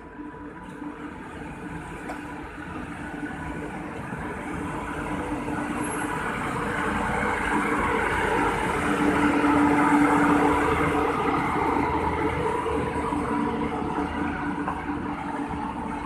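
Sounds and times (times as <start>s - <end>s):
locomotive hum: 0.0s - 16.0s
train wheels rumbling on rails: 0.0s - 16.0s.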